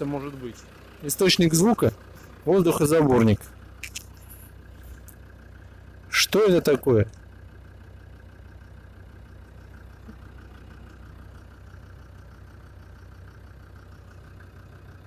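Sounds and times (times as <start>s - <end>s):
diesel engine idling: 0.0s - 15.0s
faint engine tapping: 0.0s - 15.0s.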